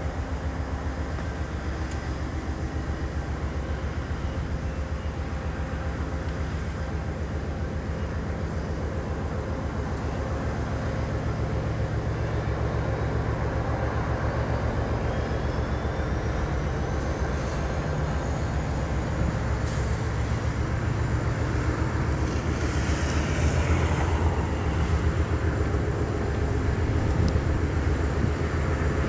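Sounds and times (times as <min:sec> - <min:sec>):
diesel locomotive rumble: 0:00.0 - 0:29.0.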